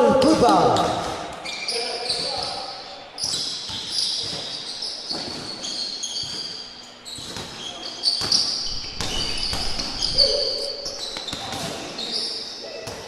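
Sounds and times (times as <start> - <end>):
sneakers squeaking on floor: 0.0 - 13.0.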